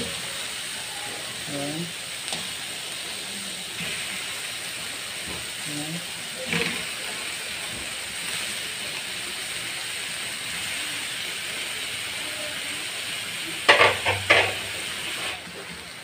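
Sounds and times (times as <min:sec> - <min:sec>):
sizzling in a wok: 0:00.0 - 0:16.0.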